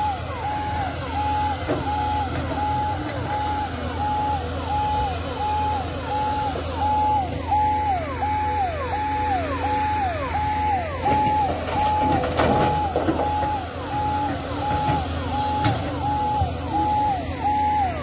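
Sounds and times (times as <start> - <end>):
ambulance siren: 0.0 - 18.0.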